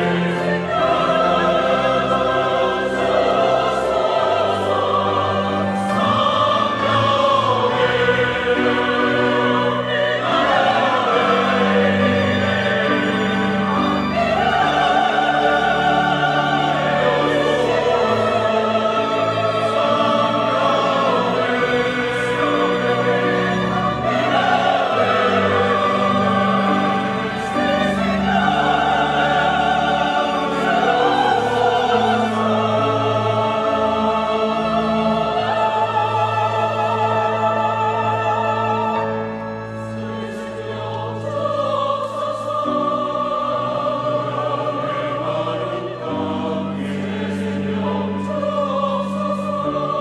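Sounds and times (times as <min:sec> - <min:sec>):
choir singing a hymn: 0:00.0 - 0:50.0
string orchestra: 0:00.0 - 0:50.0.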